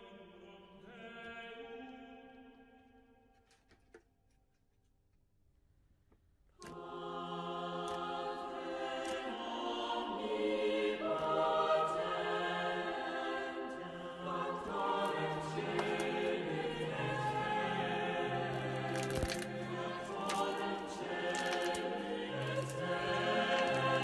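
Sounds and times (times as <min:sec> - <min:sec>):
choir singing sustained chords: 0:00.0 - 0:03.0, 0:06.6 - 0:24.0.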